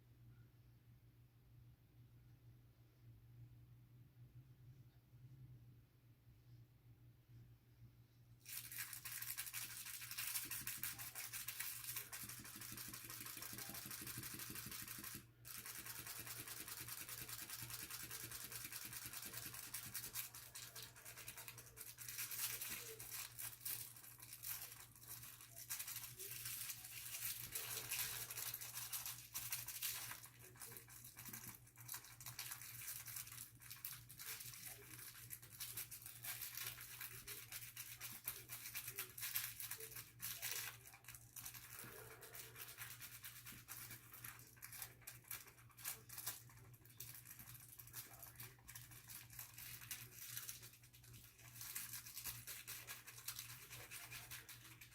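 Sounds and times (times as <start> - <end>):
toy motor buzzing and rattling: 8.4 - 54.9.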